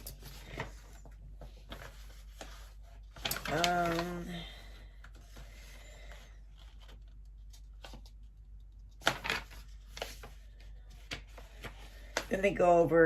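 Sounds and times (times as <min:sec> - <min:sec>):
paper rustling: 0:00.0 - 0:12.5
paper crackles: 0:00.0 - 0:12.6.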